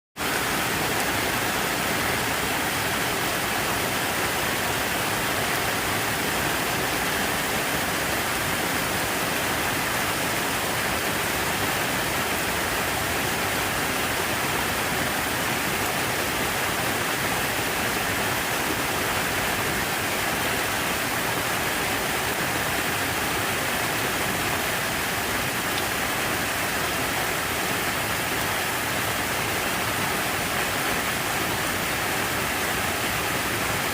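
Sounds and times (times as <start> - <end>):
falling water rushing: 0.2 - 33.9.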